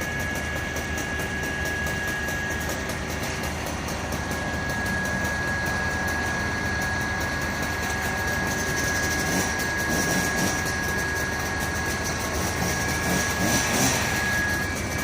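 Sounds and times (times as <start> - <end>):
fire truck engine running: 0.0 - 15.0
steady high whine: 0.0 - 15.0.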